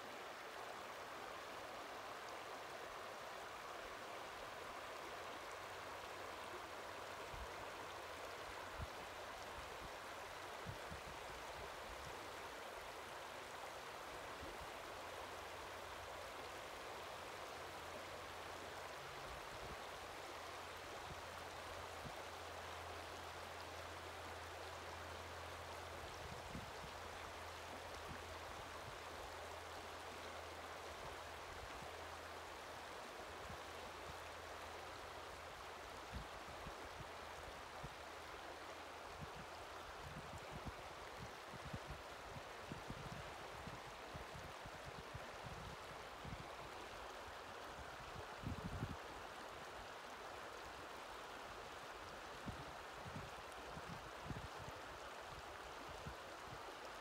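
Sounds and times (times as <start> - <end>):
river water babbling over stones: 0.0 - 57.0.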